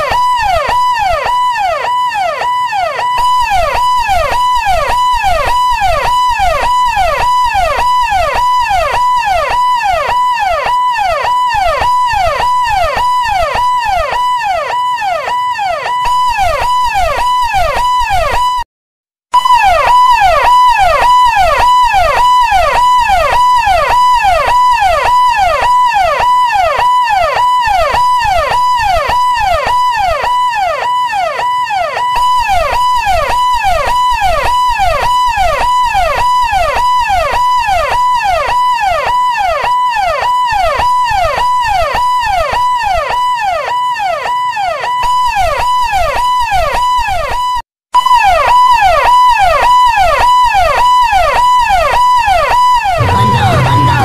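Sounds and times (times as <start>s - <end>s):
ambulance siren yelping: 0.0s - 18.6s, 19.4s - 54.0s.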